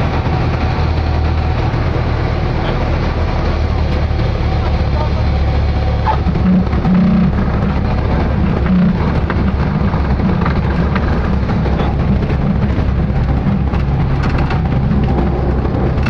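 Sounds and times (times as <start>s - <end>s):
propeller plane engine drone: 0.0s - 16.0s
rushing air noise: 0.0s - 16.0s.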